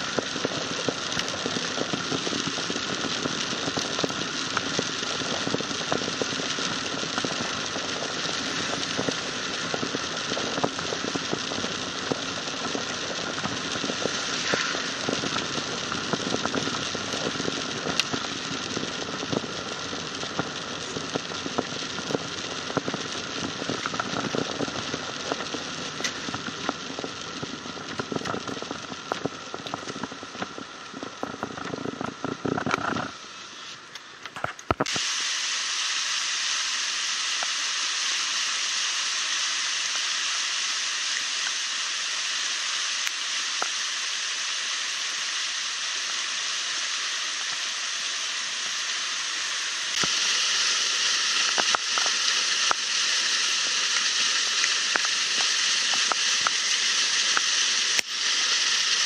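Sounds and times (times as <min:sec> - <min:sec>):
heavy rain on car roof: 0:00.0 - 0:59.0.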